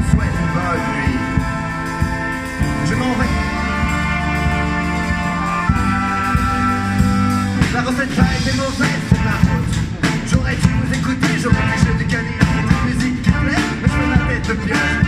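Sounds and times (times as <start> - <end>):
street band playing: 0.0 - 15.0.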